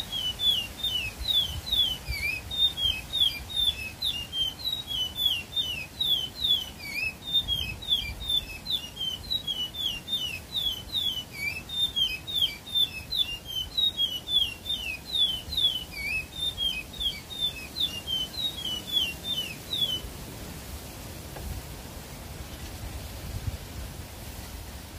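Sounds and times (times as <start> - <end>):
songbird singing whistled notes: 0.0 - 20.1.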